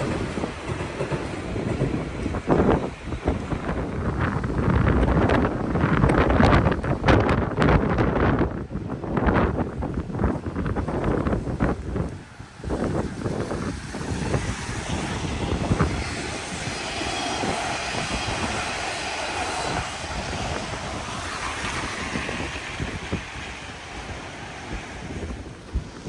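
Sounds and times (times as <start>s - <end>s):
electric train rumbling by: 0.0s - 26.0s
wind buffeting microphone: 0.0s - 26.0s.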